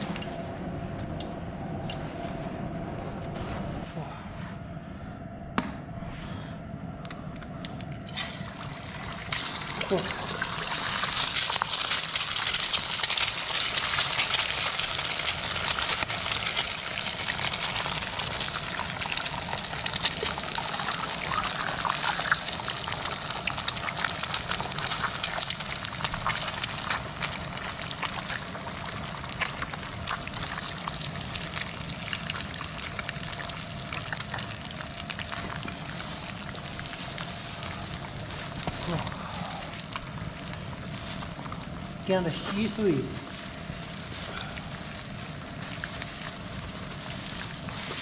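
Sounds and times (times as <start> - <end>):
eggs sizzling in hot oil: 8.0 - 48.0.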